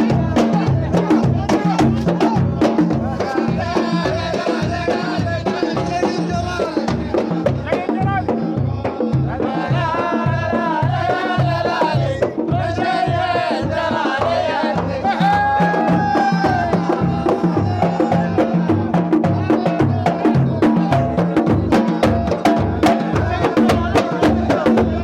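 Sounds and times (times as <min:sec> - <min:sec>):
frame drums beating: 0:00.0 - 0:25.0
group singing: 0:00.0 - 0:25.0.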